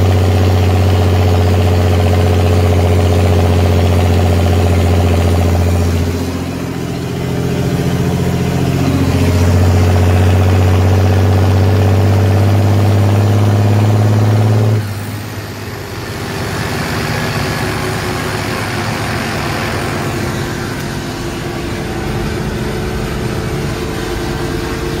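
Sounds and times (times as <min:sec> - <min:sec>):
tractor diesel engine drone: 0:00.0 - 0:25.0
rough hissing from turbo pipe: 0:03.4 - 0:12.4, 0:13.1 - 0:25.0.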